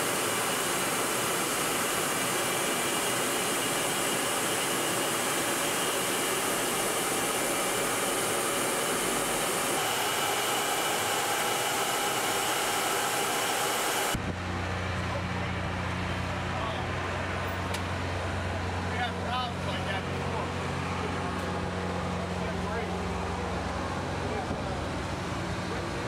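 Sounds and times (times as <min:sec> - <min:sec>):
jet aircraft roar: 0:00.0 - 0:26.0.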